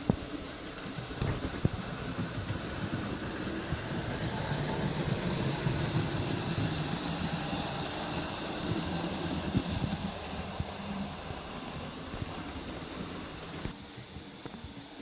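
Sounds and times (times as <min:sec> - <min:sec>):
wheel and rail noise: 0:00.0 - 0:15.0
electric motor hum: 0:02.0 - 0:14.7.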